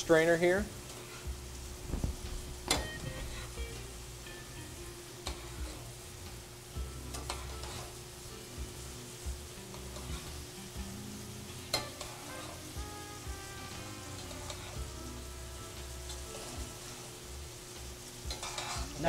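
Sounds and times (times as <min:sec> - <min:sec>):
chicken sizzling in a pan: 0:00.0 - 0:19.0.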